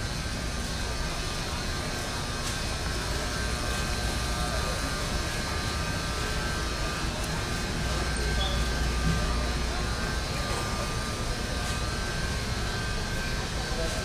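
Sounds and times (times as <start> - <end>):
faint shoppers and carts: 0.0 - 14.0
ventilation and refrigeration hum: 0.0 - 14.0.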